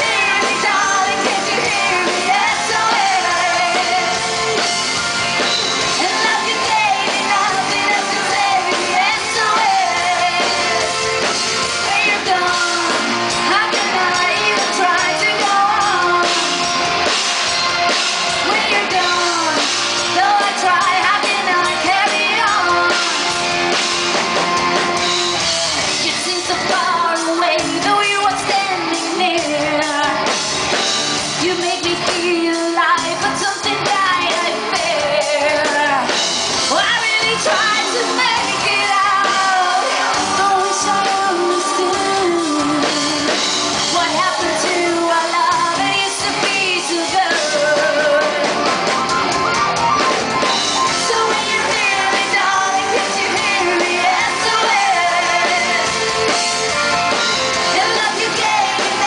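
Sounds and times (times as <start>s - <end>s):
rock band playing live: 0.0s - 59.0s
woman singing lead: 0.0s - 59.0s.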